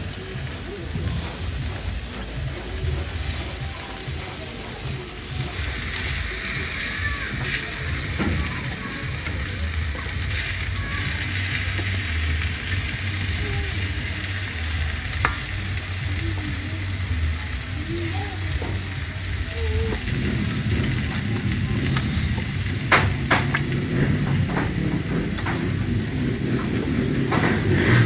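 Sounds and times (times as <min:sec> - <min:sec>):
meat sizzling on a grill: 0:00.0 - 0:28.0
low rumble: 0:05.4 - 0:28.0.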